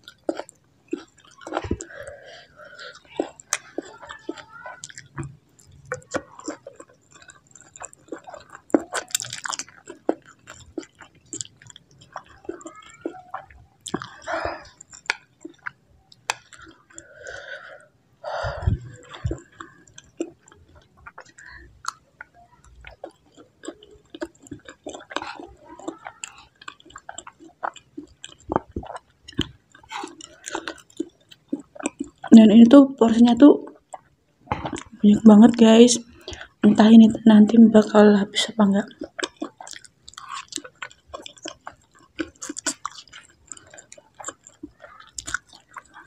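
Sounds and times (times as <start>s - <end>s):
chewing noodles: 0.0s - 32.6s, 33.7s - 35.0s, 38.8s - 46.0s.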